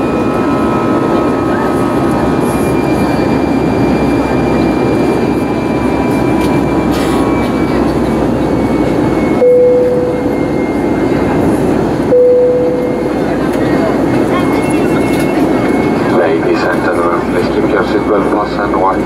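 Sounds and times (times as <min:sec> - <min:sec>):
jet engine and airflow noise: 0:00.0 - 0:19.0.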